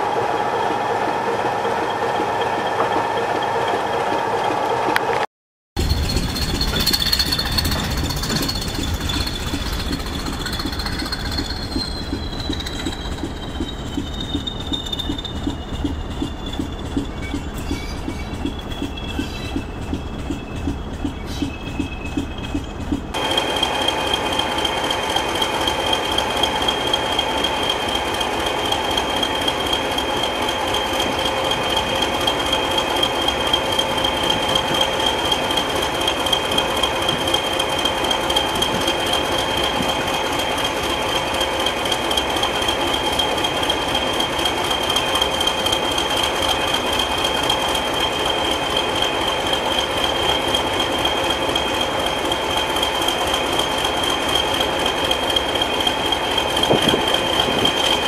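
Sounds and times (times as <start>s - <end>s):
diesel train engine running: 0.0s - 5.2s, 5.8s - 58.0s.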